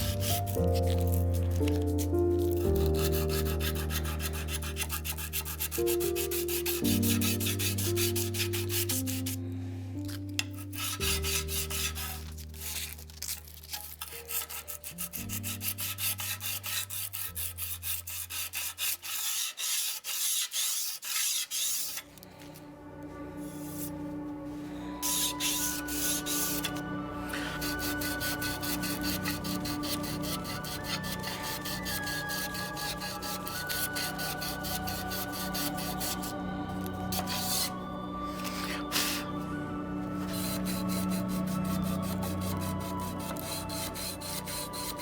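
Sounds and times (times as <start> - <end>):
sandpaper rubbing on metal: 0.0 - 9.4, 10.4 - 22.1, 25.0 - 36.4, 37.1 - 37.8, 38.4 - 39.3, 40.2 - 45.0
background music with held chords: 0.0 - 18.3, 22.1 - 45.0.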